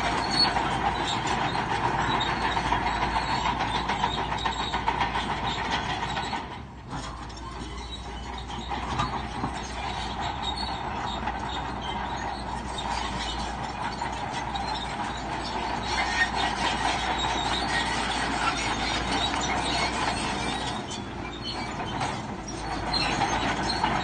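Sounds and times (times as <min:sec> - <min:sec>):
bulldozer engine running: 0:00.0 - 0:24.0
bulldozer tracks clanking and squealing: 0:00.0 - 0:24.0.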